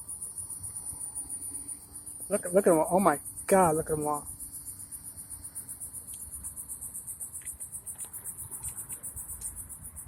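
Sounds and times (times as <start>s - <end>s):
insects chirping trill: 0.0s - 10.0s.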